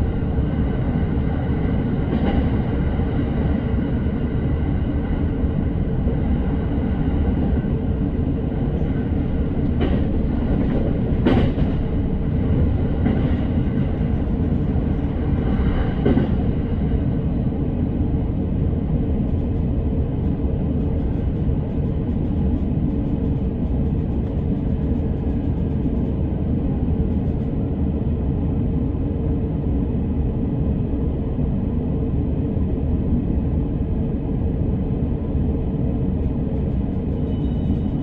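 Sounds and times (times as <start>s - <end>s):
train rolling rumble: 0.0s - 38.0s.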